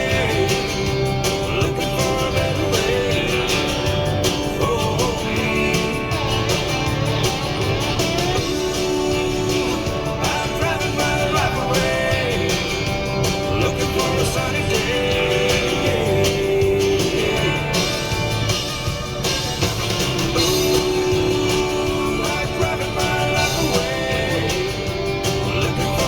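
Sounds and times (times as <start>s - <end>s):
guitar background music: 0.0s - 26.0s.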